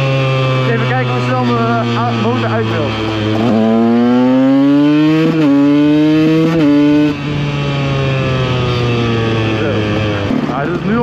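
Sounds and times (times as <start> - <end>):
two-stroke engine accelerating: 0.0 - 11.0.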